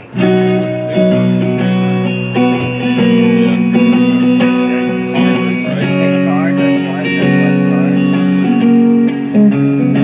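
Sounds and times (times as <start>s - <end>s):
guitar chords strummed: 0.0s - 10.0s.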